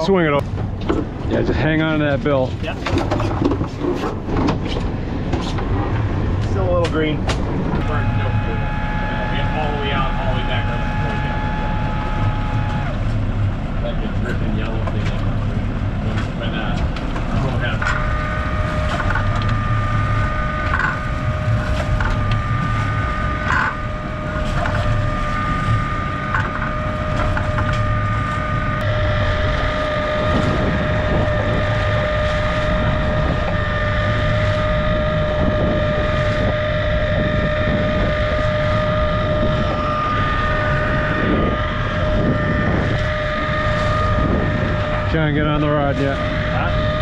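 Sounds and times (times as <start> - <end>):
boat engines running: 0.0 - 47.0
wind on microphone: 0.0 - 47.0.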